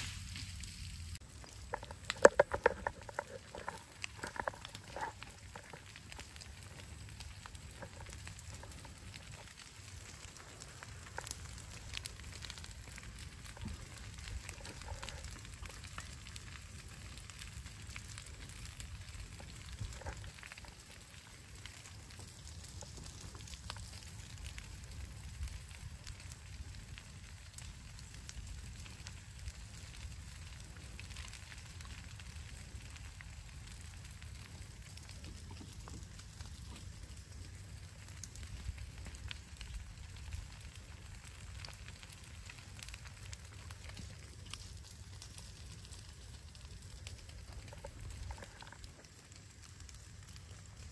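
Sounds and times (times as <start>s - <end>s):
brush fire crackling and popping: 0.0s - 50.9s.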